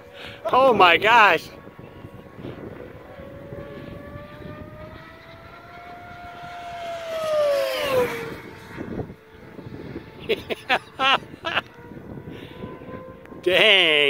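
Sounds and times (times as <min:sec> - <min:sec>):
model airplane motor whine passing: 0:00.0 - 0:14.0.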